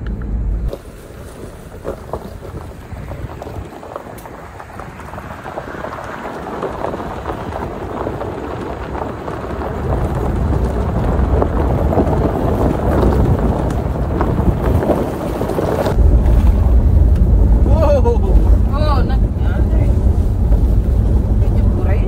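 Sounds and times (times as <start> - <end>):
heavy low rumble: 0.0 - 22.0
road and wind noise: 0.0 - 22.0
tyres crunching on gravel: 0.0 - 22.0.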